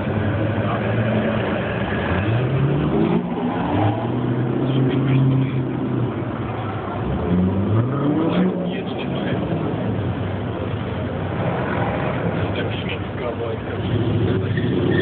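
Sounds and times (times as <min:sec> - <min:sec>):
sports car engine revving: 0:00.2 - 0:12.6.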